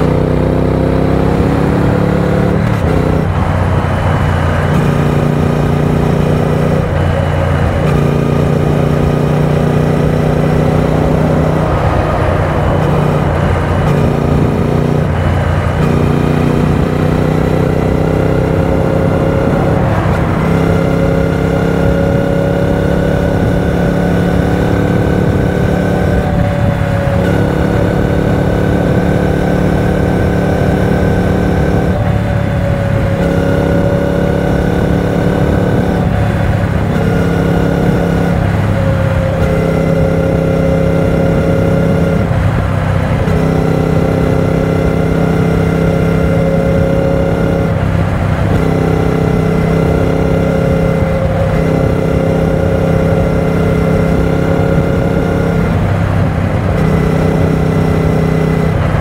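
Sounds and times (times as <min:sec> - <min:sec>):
motorcycle engine cruising: 0:00.0 - 0:59.0
road noise: 0:00.0 - 0:59.0
wind noise: 0:01.2 - 0:59.0.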